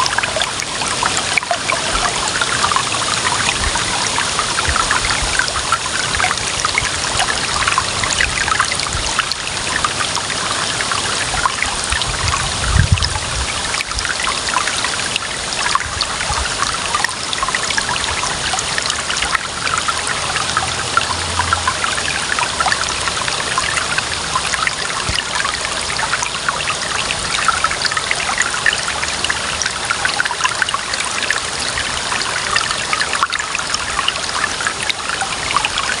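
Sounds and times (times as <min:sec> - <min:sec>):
water trickling over stones: 0:00.0 - 0:36.0.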